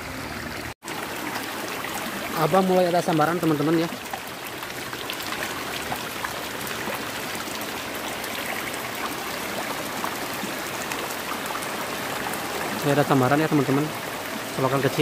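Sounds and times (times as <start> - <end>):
water flowing through ditch: 0.0 - 15.0.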